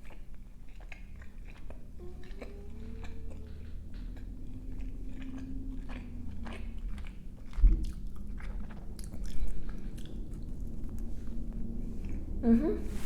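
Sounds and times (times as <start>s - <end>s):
chewing crunchy food: 0.0s - 12.4s.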